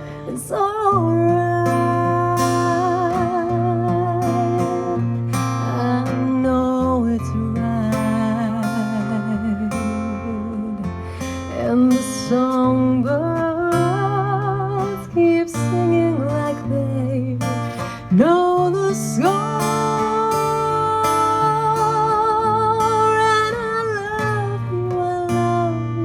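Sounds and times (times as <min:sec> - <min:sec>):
acoustic guitar: 0:00.0 - 0:26.0
woman singing with vibrato: 0:00.0 - 0:26.0.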